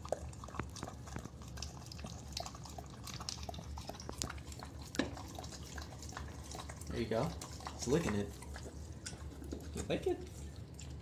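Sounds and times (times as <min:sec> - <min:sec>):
dog lapping water: 0:00.0 - 0:11.0.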